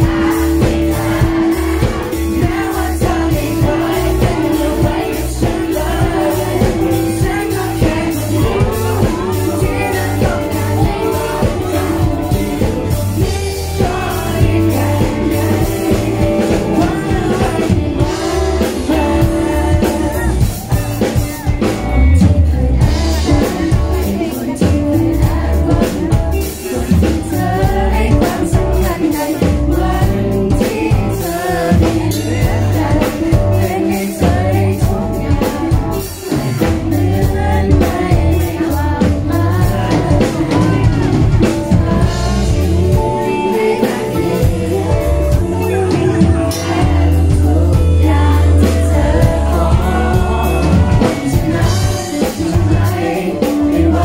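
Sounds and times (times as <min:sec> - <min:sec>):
band with heavy bass and drums: 0:00.0 - 0:54.0
man singing into microphone: 0:00.0 - 0:54.0.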